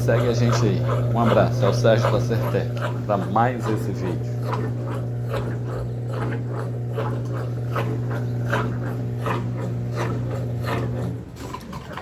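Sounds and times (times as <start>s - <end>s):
drain pump humming: 0.0s - 12.0s
water gurgling: 0.0s - 12.0s.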